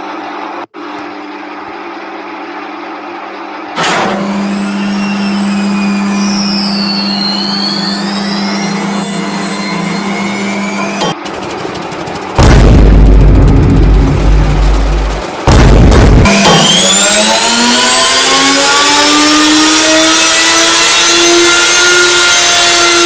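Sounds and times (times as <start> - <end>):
washing machine whirring: 0.0 - 20.5.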